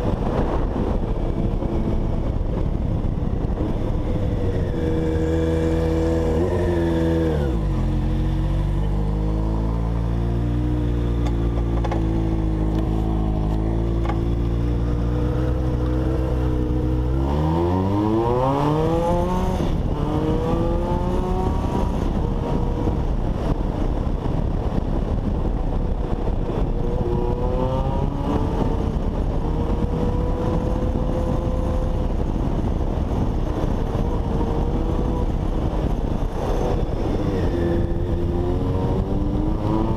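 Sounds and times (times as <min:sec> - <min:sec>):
motorcycle engine revving: 0:00.0 - 0:24.9, 0:25.6 - 0:39.9
rushing wind noise: 0:00.0 - 0:39.9.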